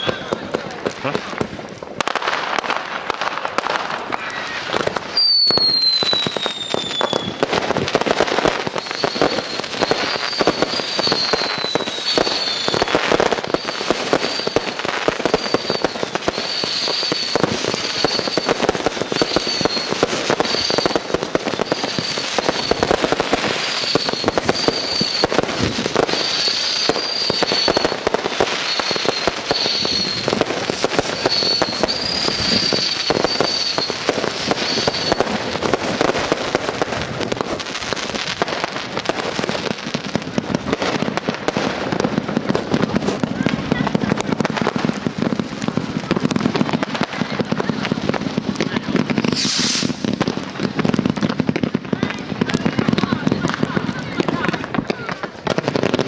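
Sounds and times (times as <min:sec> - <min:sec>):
falling firework whistle: 0:00.0 - 0:01.2, 0:02.4 - 0:56.0
fireworks bursting and crackling: 0:00.0 - 0:56.0.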